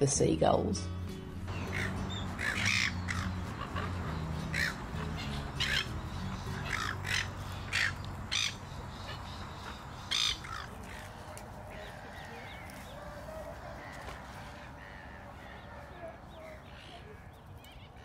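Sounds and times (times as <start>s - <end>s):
gulls calling: 0.8s - 18.0s.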